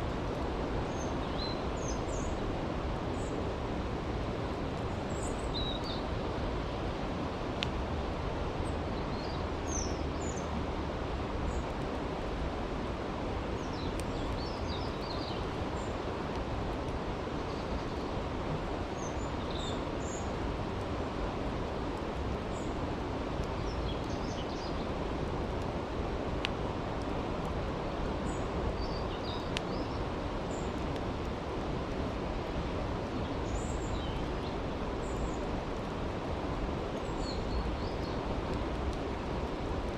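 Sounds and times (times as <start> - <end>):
campfire crackles: 0.0 - 39.9.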